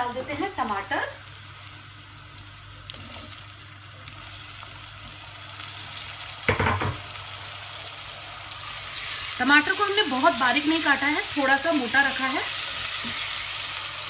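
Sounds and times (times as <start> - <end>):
onions frying sizzle: 0.0 - 14.0.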